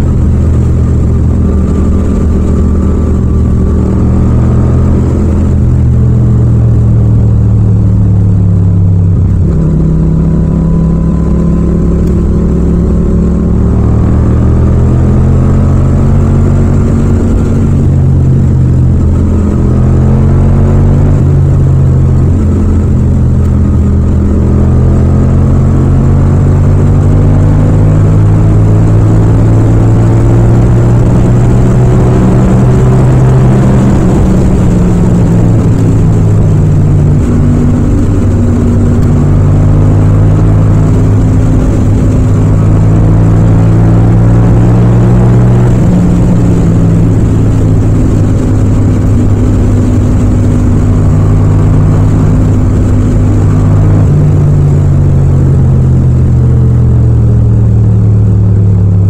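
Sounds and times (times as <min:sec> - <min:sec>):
motorcycle engine under load: 0:00.0 - 0:59.0.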